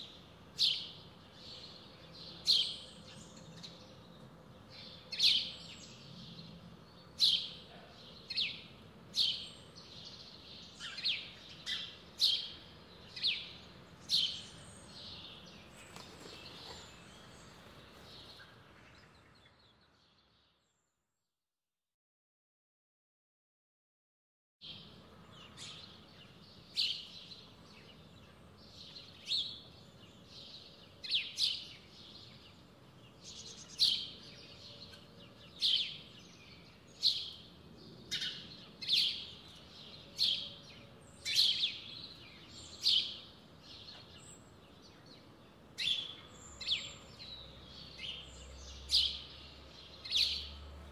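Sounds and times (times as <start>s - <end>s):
blackbirds calling: 0.0s - 20.2s, 24.6s - 50.9s.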